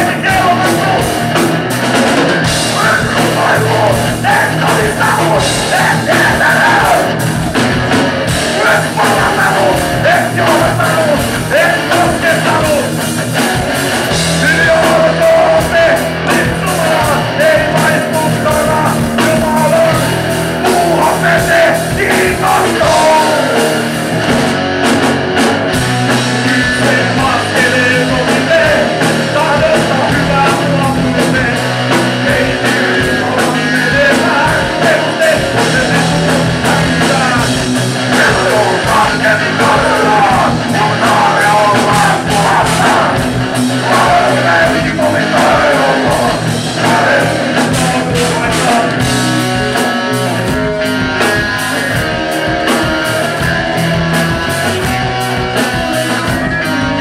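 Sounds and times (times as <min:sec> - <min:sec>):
man singing: 0:00.0 - 0:07.4, 0:08.3 - 0:13.5, 0:14.1 - 0:24.4, 0:26.1 - 0:52.0
drums: 0:00.0 - 0:57.0
electric guitars: 0:00.0 - 0:57.0
keyboards: 0:00.0 - 0:57.0.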